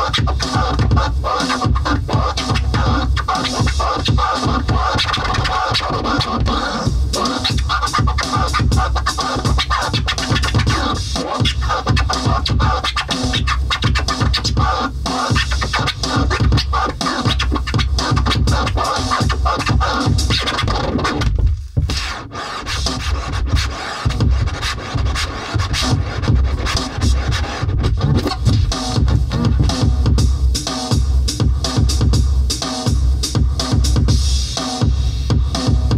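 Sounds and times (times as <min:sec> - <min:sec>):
bass-heavy electronic beat: 0:00.0 - 0:35.9
record scratching: 0:00.0 - 0:35.9.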